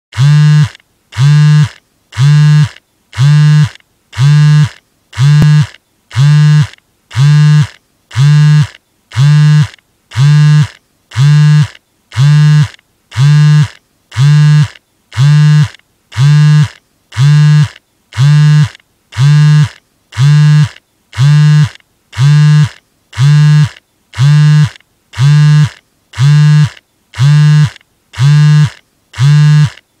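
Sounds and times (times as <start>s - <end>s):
phone vibrating buzz: 0.1s - 29.8s.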